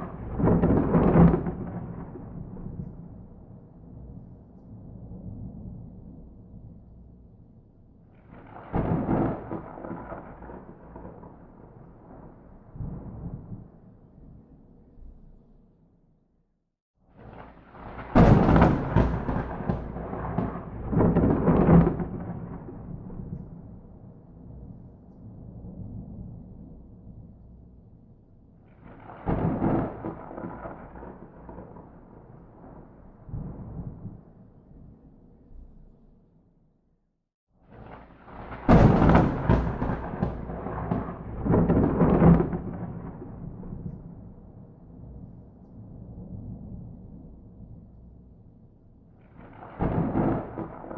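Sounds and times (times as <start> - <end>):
thunder crack and rumble: 0.0 - 7.4, 8.1 - 15.4, 17.1 - 28.0, 28.6 - 35.9, 37.6 - 48.3, 49.1 - 50.9.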